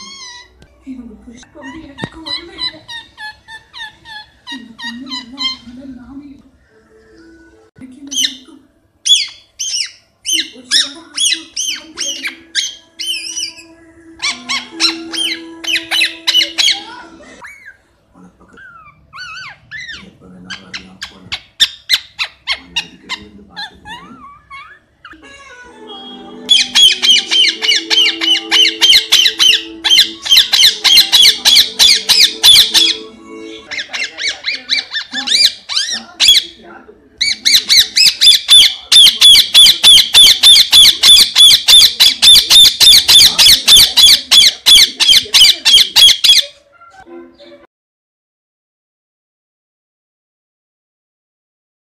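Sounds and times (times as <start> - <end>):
parakeet shrill calls: 0.0 - 0.6, 1.6 - 5.8, 8.1 - 17.8, 18.6 - 36.6, 37.2 - 47.0.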